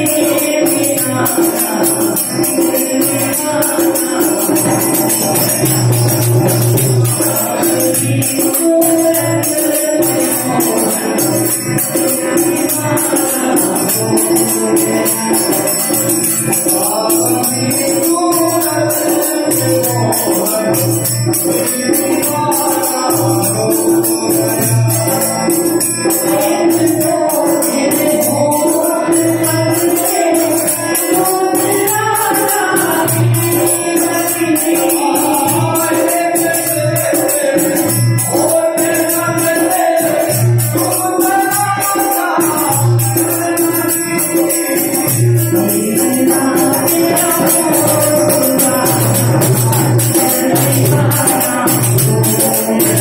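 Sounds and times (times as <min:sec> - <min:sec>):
harmonium drone: 0:00.0 - 0:53.0
jingling hand percussion: 0:00.0 - 0:53.0
man singing: 0:00.0 - 0:53.0.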